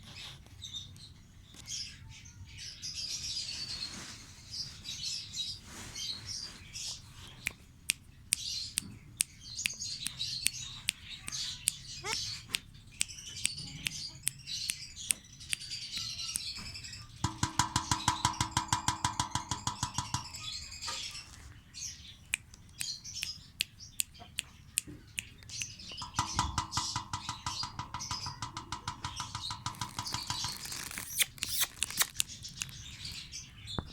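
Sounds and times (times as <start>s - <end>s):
pet birds chirping: 0.0s - 33.9s.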